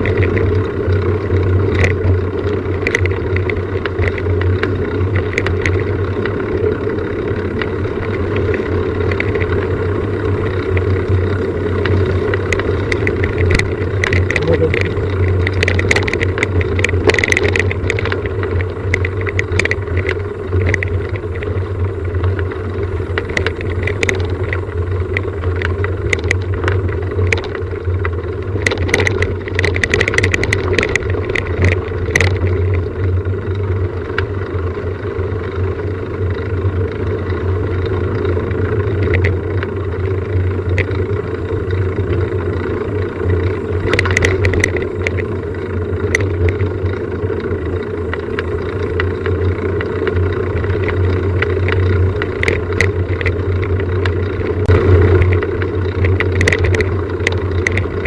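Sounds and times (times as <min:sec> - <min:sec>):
light clicks and rattles: 0:00.0 - 0:34.6, 0:37.2 - 0:58.0
engine hum: 0:00.0 - 0:58.0.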